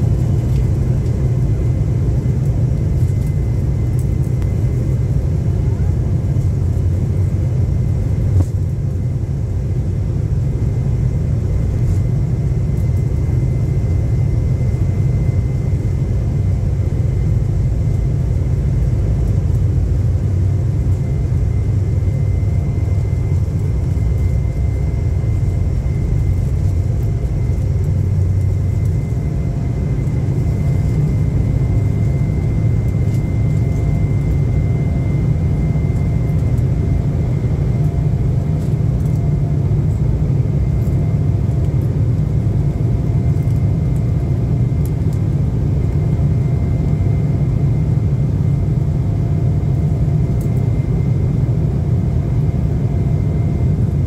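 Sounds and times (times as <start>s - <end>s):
high jet engine whine: 0.0s - 54.0s
jet engine rumble in cabin: 0.0s - 54.0s.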